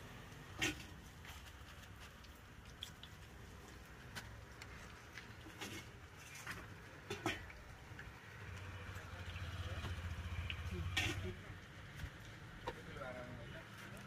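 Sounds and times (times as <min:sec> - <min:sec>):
fritters frying in hot oil: 0:00.0 - 0:14.0.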